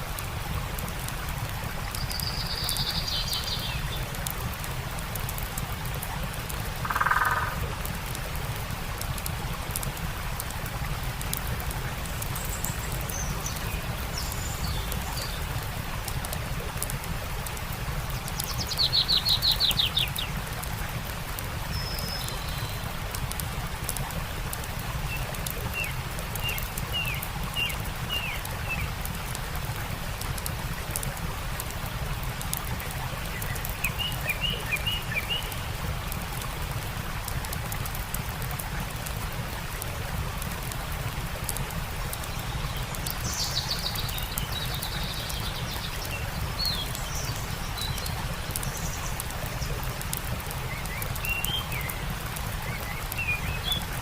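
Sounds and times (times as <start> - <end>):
campfire crackling: 0.0 - 18.7, 19.3 - 54.0
stream running: 0.0 - 54.0.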